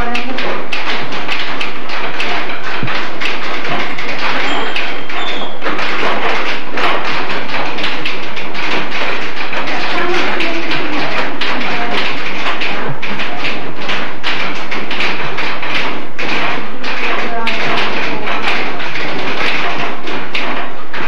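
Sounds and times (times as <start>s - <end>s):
typewriters clattering: 0.0s - 21.0s.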